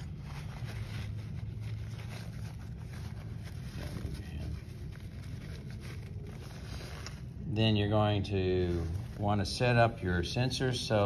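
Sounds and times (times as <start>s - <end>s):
low background hum: 0.0s - 11.0s
paper towel rustling: 0.0s - 11.0s.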